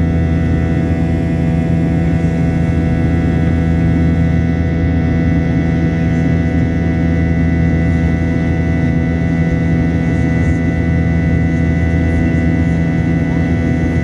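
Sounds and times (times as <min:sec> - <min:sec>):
jet airliner cabin drone: 0:00.0 - 0:14.0.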